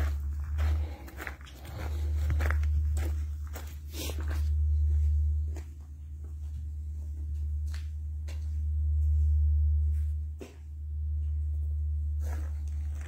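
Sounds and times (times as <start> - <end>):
soft footsteps: 0.0 - 13.0
steady low rumble: 0.0 - 13.0.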